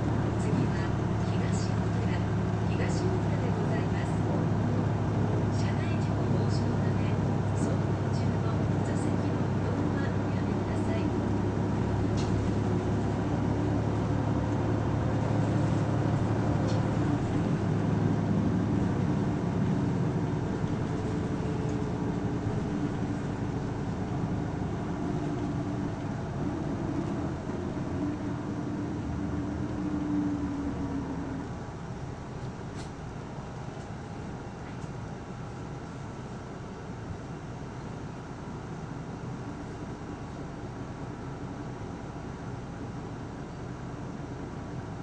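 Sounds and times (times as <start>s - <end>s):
bus diesel engine running: 0.0s - 45.0s.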